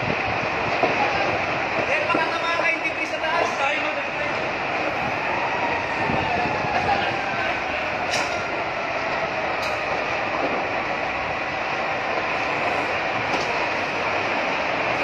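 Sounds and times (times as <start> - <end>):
fire roaring and crackling: 0.0 - 15.0.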